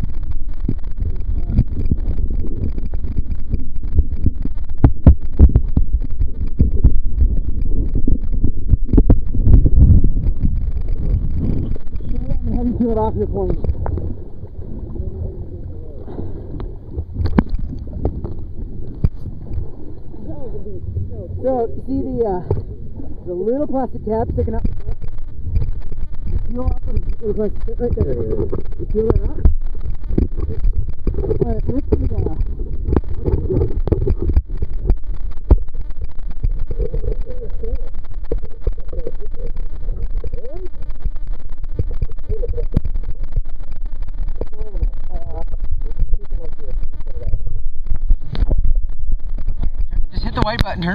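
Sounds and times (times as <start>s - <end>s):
low rumble: 0.0s - 50.9s
water and wind buffeting camera: 0.0s - 50.9s.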